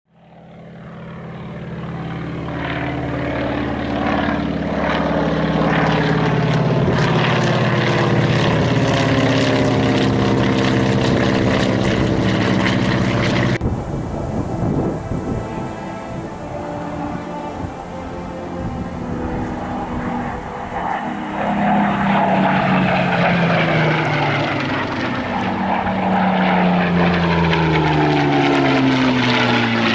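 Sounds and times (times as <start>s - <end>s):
propeller plane flying past: 0.1s - 29.9s.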